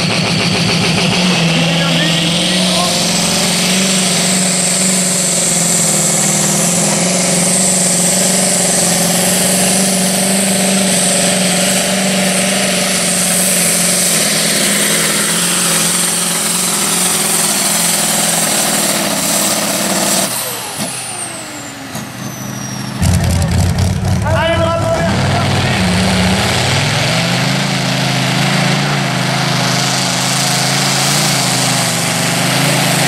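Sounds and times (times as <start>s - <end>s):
high engine whine: 0.0s - 33.0s
tractor racing engine under load: 0.0s - 33.0s.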